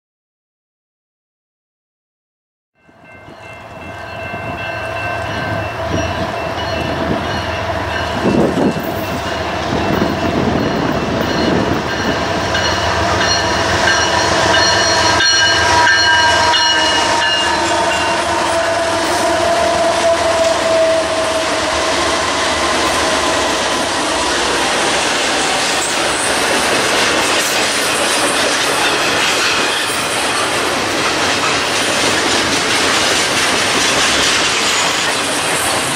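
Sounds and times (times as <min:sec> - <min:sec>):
diesel locomotive whine and rumble: 0:02.8 - 0:35.9
train wheels clattering on rails: 0:04.1 - 0:35.9.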